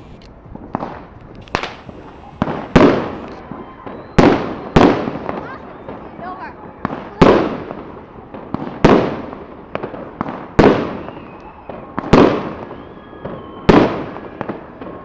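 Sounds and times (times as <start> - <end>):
fireworks bangs with echo: 0.0 - 15.0
fireworks crackles: 0.0 - 15.0.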